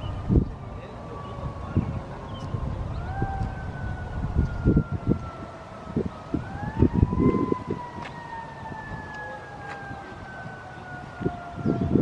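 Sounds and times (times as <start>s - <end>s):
emergency siren wailing: 0.0s - 12.0s
wind rumble on microphone: 0.0s - 12.0s.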